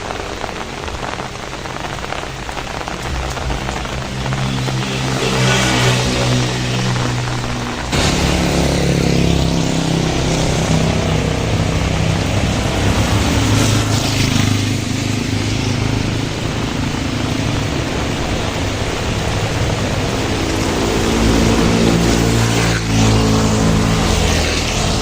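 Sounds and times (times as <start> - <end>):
heavy rain hiss: 0.0 - 25.0
vehicle engine passing by: 3.2 - 25.0.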